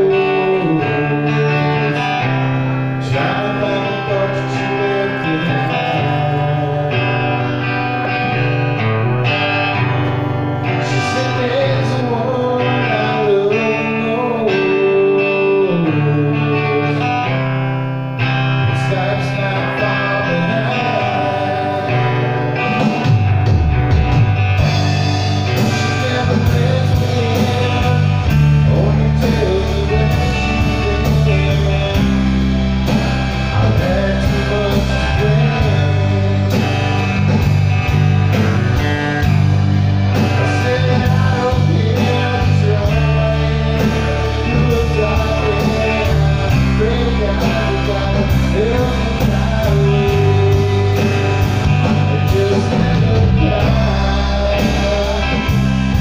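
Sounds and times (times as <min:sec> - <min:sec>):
electric guitar: 0:00.0 - 0:56.0
rock band playing a slow song: 0:00.0 - 0:56.0.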